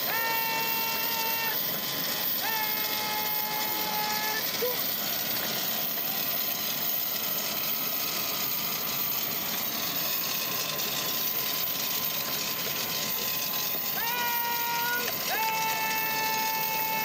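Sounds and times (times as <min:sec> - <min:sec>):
faint steady whine: 0:00.0 - 0:17.0
jet turbine rushing hiss: 0:00.0 - 0:17.0.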